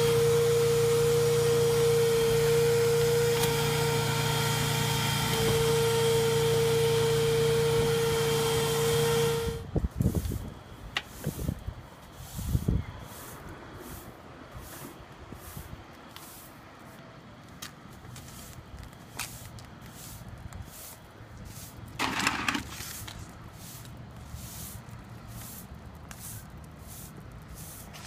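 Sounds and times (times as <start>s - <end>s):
broom sweeping glass on concrete: 0.0s - 17.0s, 18.1s - 28.0s.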